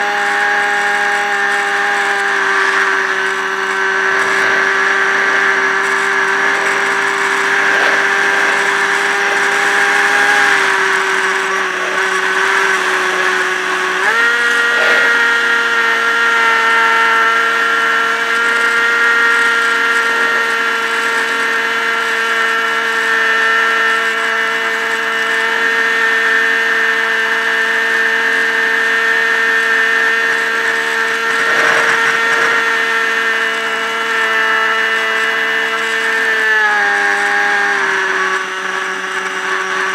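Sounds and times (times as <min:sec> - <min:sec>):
model plane motor whining: 0:00.0 - 0:39.9.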